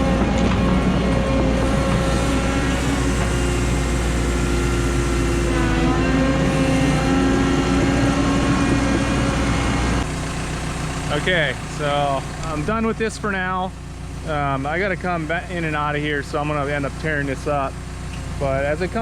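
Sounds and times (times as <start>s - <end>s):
excavator diesel engine under load: 0.0s - 19.0s
hydraulics working: 0.0s - 19.0s.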